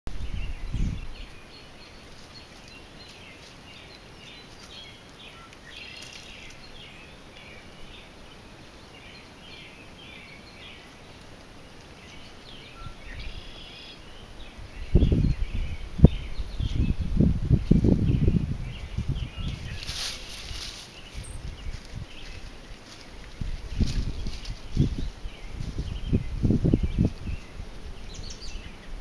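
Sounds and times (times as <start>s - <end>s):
birds chirping: 0.1s - 29.0s
faint steady hiss: 0.1s - 29.0s.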